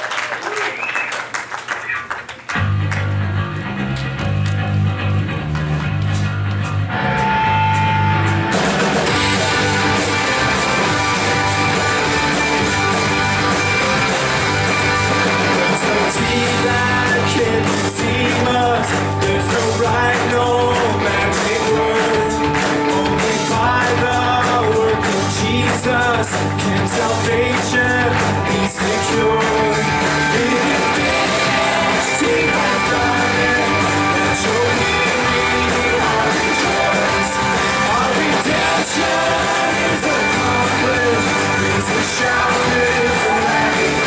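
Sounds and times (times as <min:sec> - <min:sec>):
bass guitar: 0:02.5 - 0:44.0
electric guitar: 0:02.5 - 0:44.0
drums and cymbals: 0:07.6 - 0:44.0.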